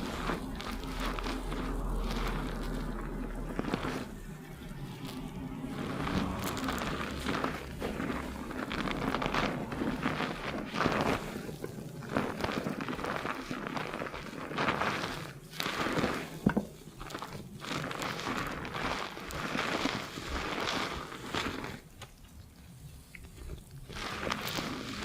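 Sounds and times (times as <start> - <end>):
hands scrubbing lathered hair: 0.0 - 25.0
shampoo foam crackling: 0.0 - 25.0.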